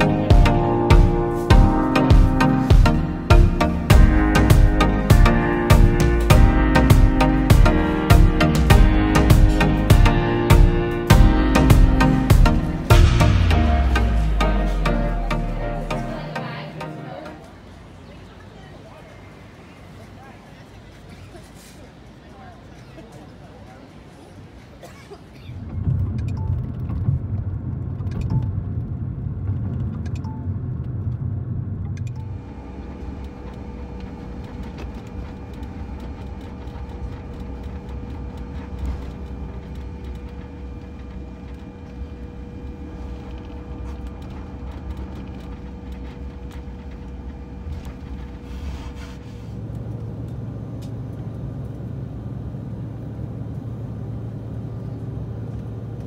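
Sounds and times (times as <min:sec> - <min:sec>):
car road noise: 0:00.0 - 0:21.0, 0:25.5 - 0:56.0
jet engine drone: 0:00.0 - 0:21.3, 0:25.3 - 0:56.0
jet cabin hum: 0:00.0 - 0:56.0.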